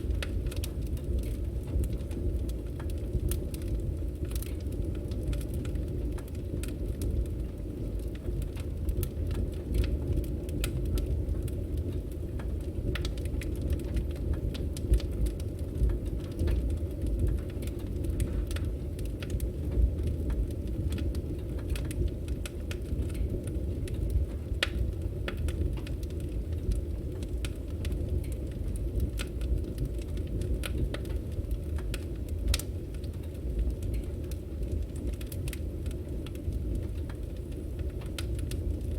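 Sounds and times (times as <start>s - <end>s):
burning wood crackling: 0.0s - 38.9s
flames rumbling: 0.0s - 38.9s.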